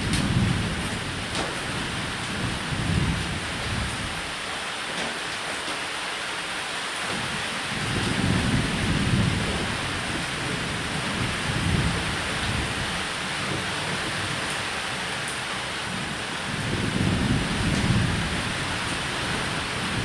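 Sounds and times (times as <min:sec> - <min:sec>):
rolling thunder: 0:00.0 - 0:04.2, 0:07.7 - 0:20.0
rain on a roof: 0:00.0 - 0:20.0.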